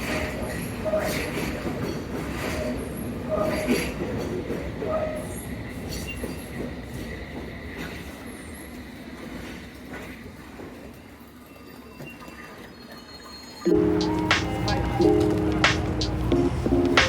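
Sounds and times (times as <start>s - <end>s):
train rumbling on rails: 0.0s - 11.8s, 13.7s - 17.0s.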